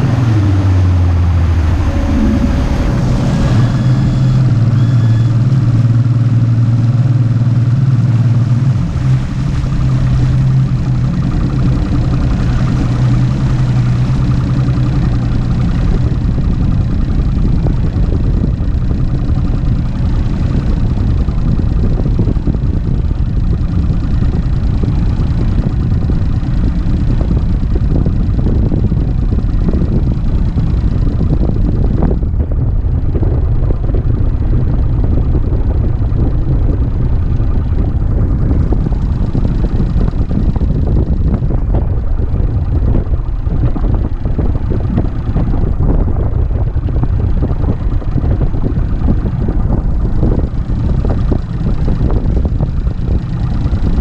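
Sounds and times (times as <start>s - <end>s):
outboard engine idling: 0.0s - 54.0s
wind rumble on microphone: 0.0s - 54.0s.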